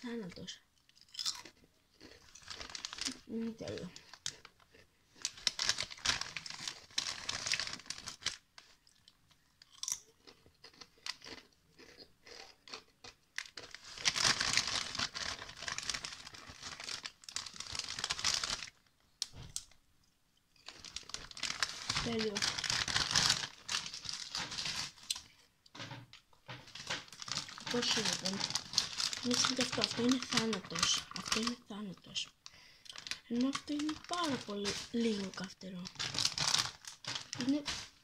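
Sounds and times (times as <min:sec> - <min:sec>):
person crunching and chewing crisps: 0:00.8 - 0:19.8, 0:20.4 - 0:25.7, 0:26.4 - 0:31.8, 0:32.5 - 0:38.0
plastic snack bag crinkling: 0:00.8 - 0:19.8, 0:20.5 - 0:38.0.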